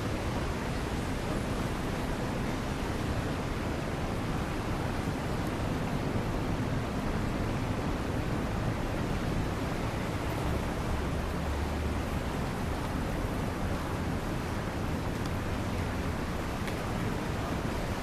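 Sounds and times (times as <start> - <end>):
rain and traffic hiss: 0.0 - 18.0.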